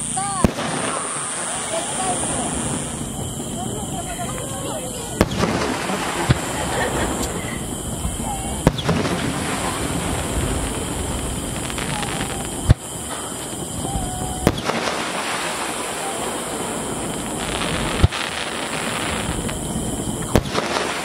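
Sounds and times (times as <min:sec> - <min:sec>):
crackling hiss of burning stars: 0:00.0 - 0:21.0
firework shells bursting: 0:00.0 - 0:21.0.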